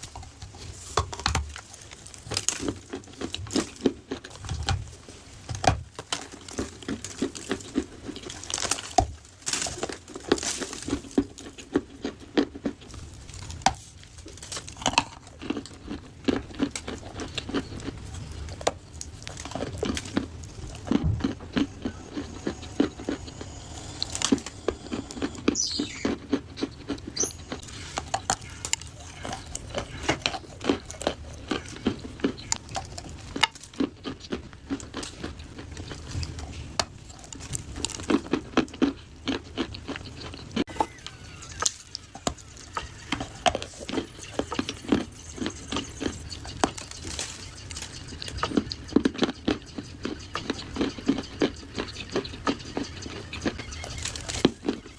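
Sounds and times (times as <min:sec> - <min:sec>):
dry clay crunching: 0:00.0 - 0:54.9.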